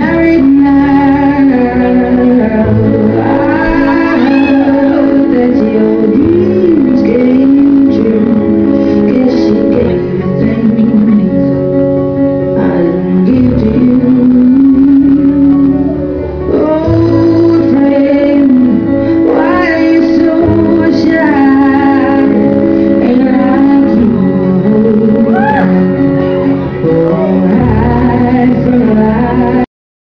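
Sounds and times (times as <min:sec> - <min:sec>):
song with singing and guitar: 0:00.0 - 0:29.7.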